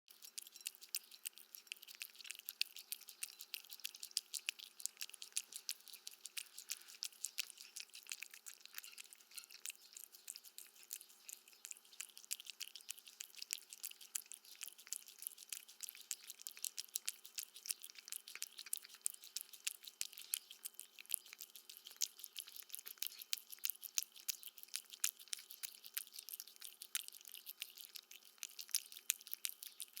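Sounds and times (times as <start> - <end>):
cat chewing food: 0.1 - 30.0.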